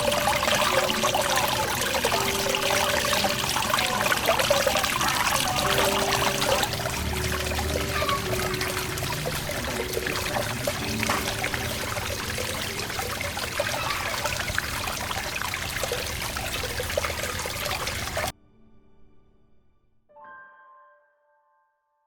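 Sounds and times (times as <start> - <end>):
fountain water pouring into pool: 0.0 - 18.3.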